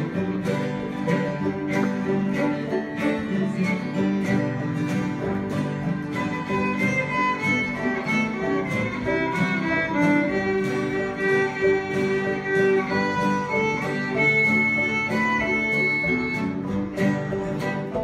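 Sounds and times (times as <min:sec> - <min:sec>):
fiddle melody: 0:00.0 - 0:18.0
strummed guitars: 0:00.0 - 0:18.0.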